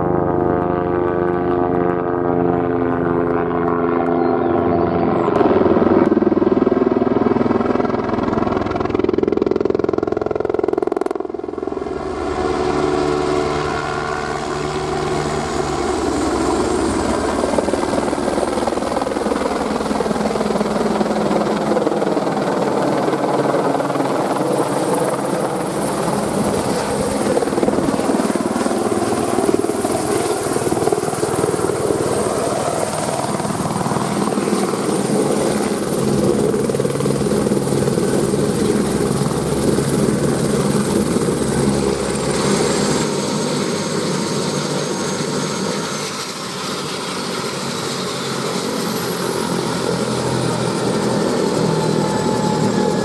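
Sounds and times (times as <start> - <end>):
helicopter hovering overhead: 0.0 - 53.0.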